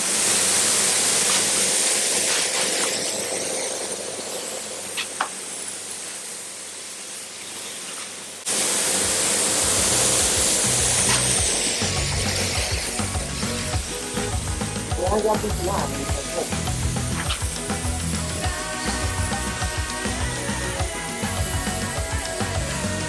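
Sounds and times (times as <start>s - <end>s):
extraction fan humming: 0.0s - 23.0s
spray gun hissing: 0.0s - 23.0s.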